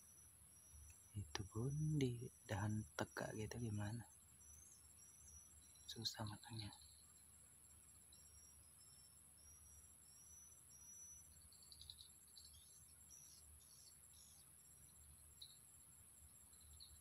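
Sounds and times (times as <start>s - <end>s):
thin high bird chirps: 0.0s - 7.3s, 7.9s - 17.0s
high insect trill: 0.0s - 17.0s.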